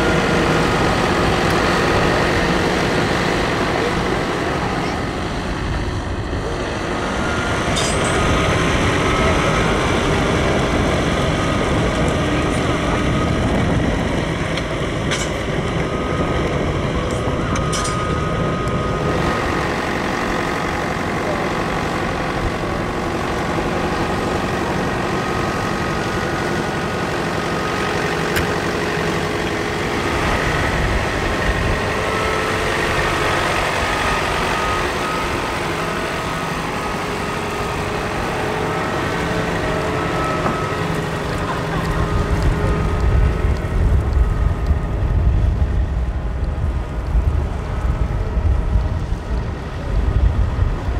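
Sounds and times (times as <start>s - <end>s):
piston aircraft engines running: 0.0s - 50.9s.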